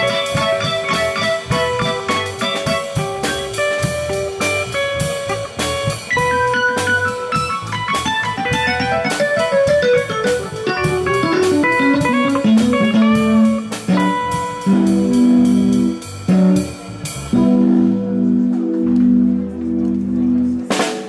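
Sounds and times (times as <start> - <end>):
steady ticking beat: 0.0 - 17.4
electric guitar notes and chords: 0.0 - 21.0.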